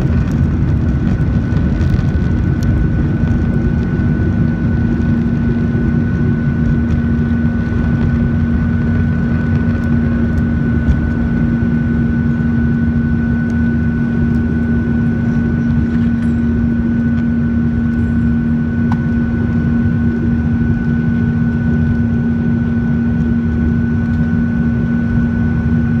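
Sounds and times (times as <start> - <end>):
high engine whine: 0.0 - 26.0
jet engines roaring in cabin: 0.0 - 26.0.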